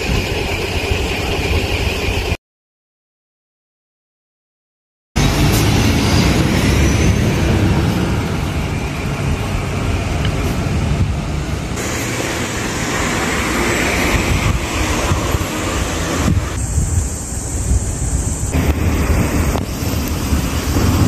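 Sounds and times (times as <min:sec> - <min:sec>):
bus engine rumbling: 0:00.0 - 0:02.4, 0:05.2 - 0:21.0
street traffic noise: 0:00.0 - 0:02.4, 0:05.2 - 0:21.0.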